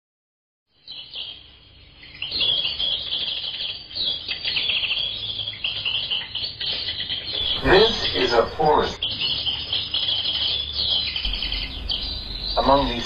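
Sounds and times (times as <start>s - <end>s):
birds chirping and singing: 0.8s - 13.0s.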